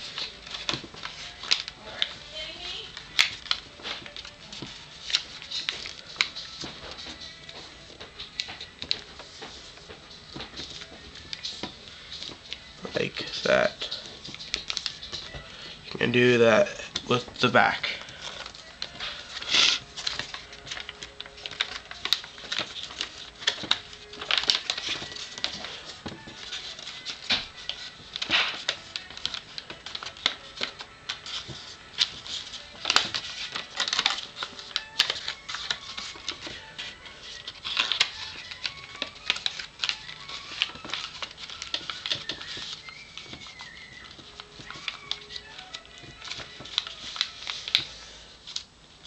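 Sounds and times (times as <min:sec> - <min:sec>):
paper crinkling as it is folded: 0:00.0 - 0:49.0.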